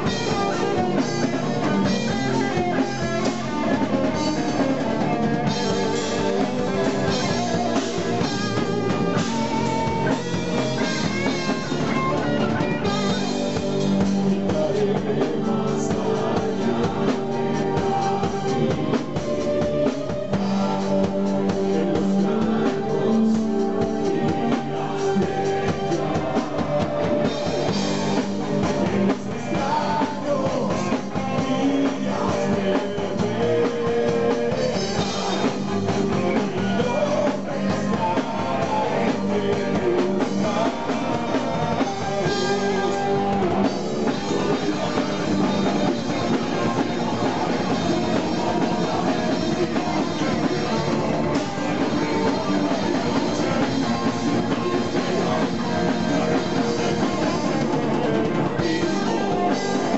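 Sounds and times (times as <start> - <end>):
drum kit: 0.0 - 59.9
electric guitars: 0.0 - 59.9
person singing: 0.0 - 59.9.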